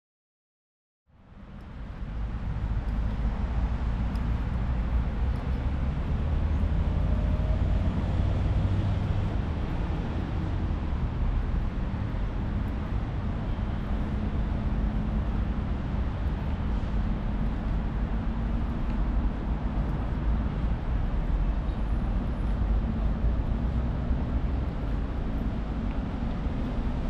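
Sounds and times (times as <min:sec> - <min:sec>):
road traffic rumble: 0:01.1 - 0:27.0.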